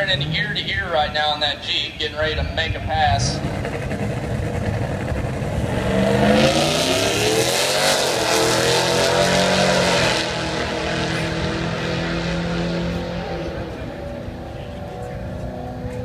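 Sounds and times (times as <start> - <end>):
car engine accelerating hard: 2.6 - 16.0.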